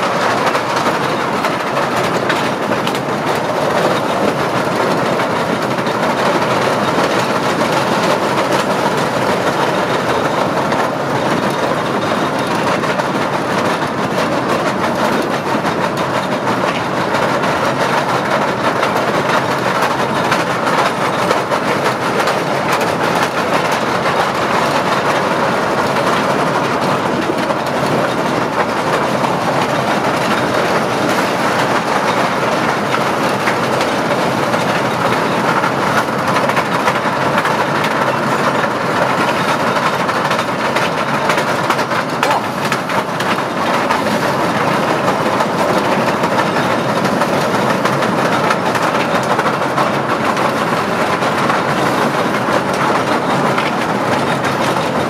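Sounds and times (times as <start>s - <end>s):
toy train running on track: 0.0s - 55.0s.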